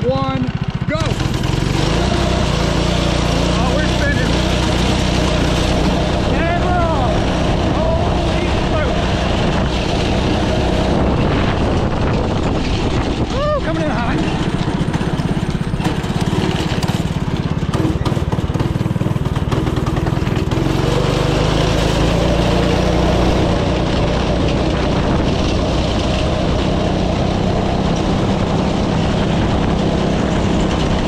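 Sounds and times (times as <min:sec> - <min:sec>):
go-kart engine at full throttle: 0:00.0 - 0:31.0.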